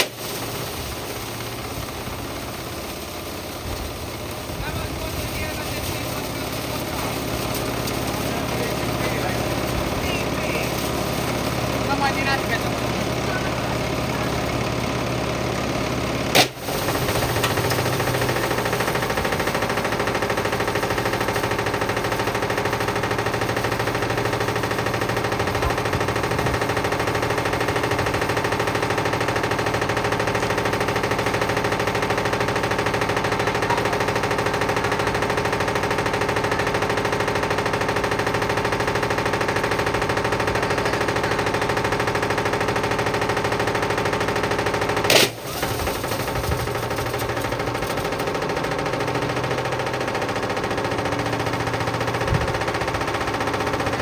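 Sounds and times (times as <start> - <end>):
washing machine tones: 1.2 - 54.0.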